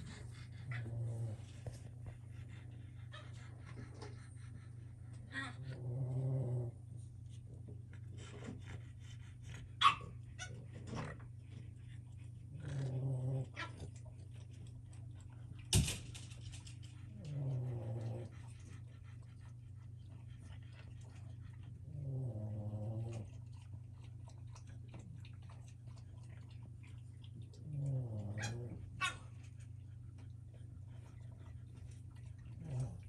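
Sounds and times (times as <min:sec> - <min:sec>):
puppies play-growling: 0:00.0 - 0:33.0.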